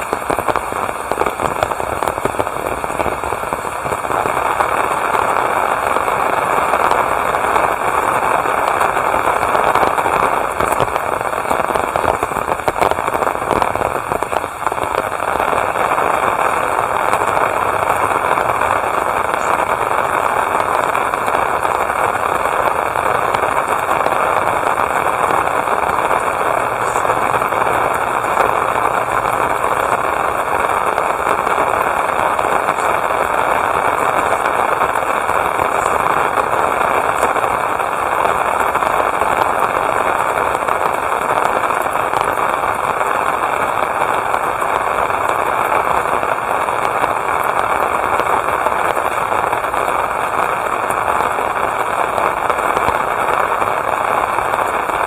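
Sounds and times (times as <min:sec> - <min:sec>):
rain falling steadily: 0:00.0 - 0:55.0.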